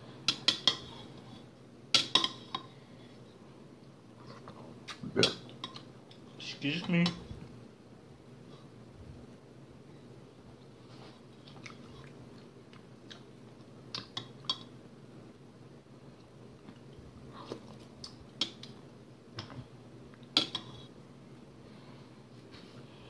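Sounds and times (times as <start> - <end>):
soft eating sounds: 0.0 - 7.6, 10.0 - 21.0.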